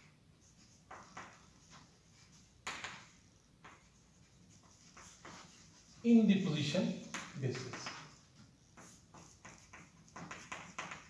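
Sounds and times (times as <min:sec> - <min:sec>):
chalk scratching on blackboard: 0:00.3 - 0:11.0.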